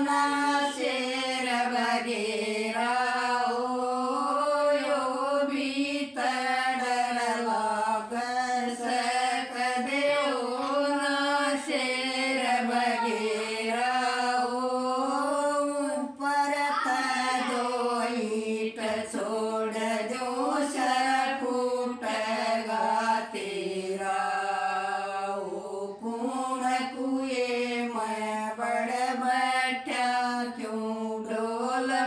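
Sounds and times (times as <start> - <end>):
women singing unaccompanied: 0.0 - 32.0.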